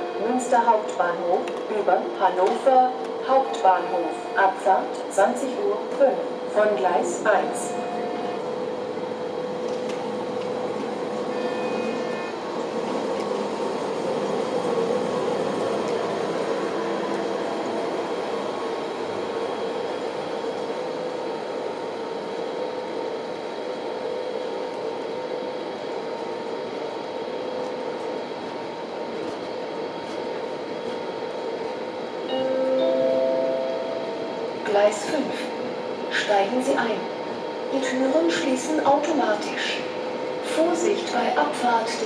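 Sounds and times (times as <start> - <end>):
electric locomotive hum: 0.0 - 42.0.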